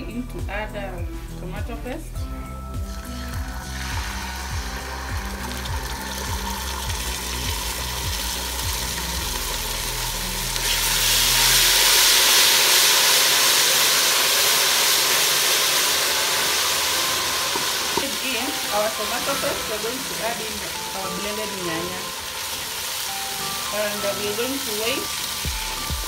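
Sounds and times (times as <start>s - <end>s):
onions sizzling in oil: 2.8s - 26.0s.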